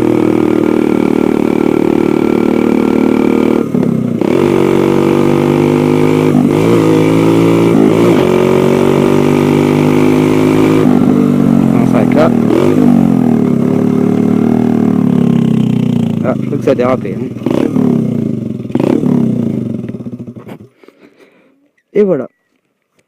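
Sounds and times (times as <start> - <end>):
dirt bike engine running: 0.0 - 20.8.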